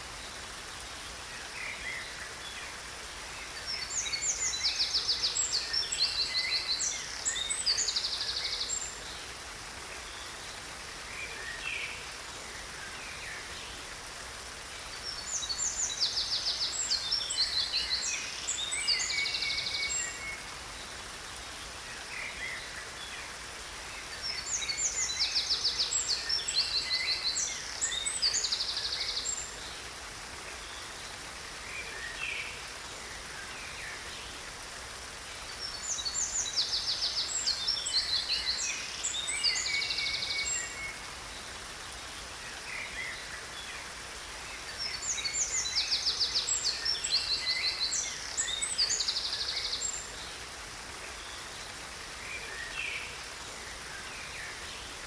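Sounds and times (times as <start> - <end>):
waterfall hiss: 0.0 - 55.0.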